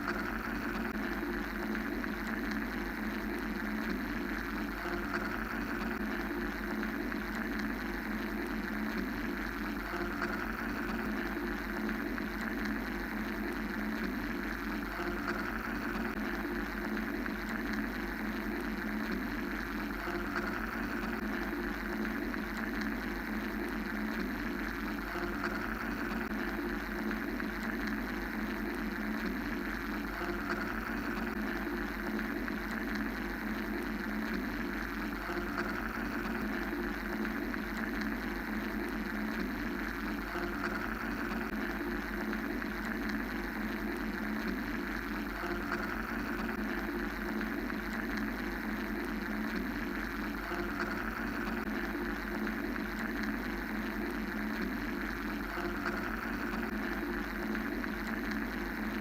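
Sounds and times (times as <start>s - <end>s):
mechanical white noise drone: 0.0s - 59.0s.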